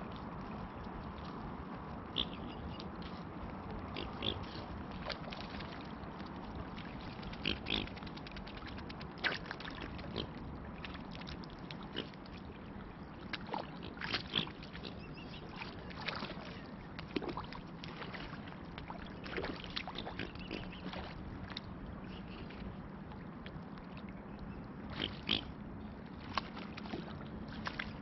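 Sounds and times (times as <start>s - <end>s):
swans splashing in water: 0.0s - 24.0s, 24.7s - 28.0s.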